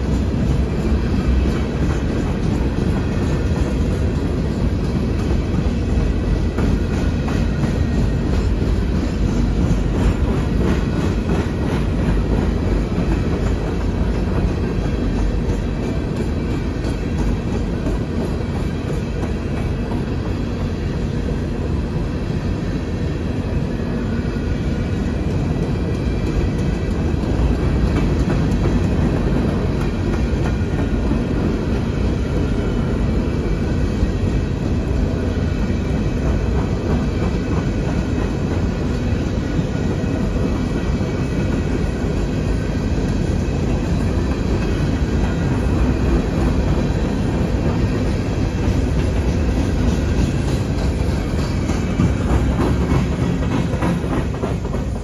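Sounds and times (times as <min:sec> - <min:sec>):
train cars rolling on steel wheels: 0:00.0 - 0:55.0.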